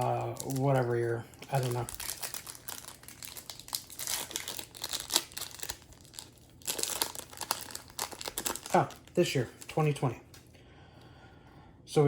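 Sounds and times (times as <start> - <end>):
foil wrapper crinkling: 0.0 - 10.1.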